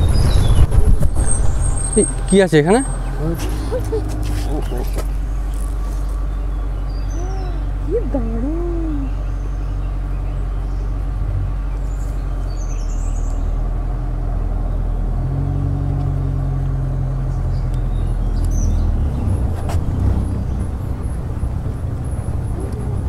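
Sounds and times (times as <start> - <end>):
jeep engine running: 0.0 - 23.0.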